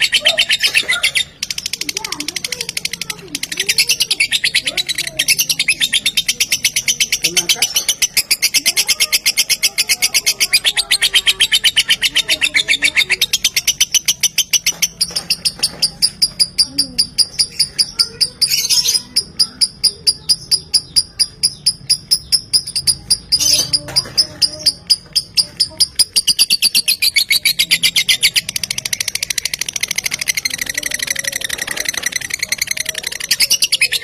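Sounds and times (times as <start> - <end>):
lovebird trilling: 0.0 - 34.0.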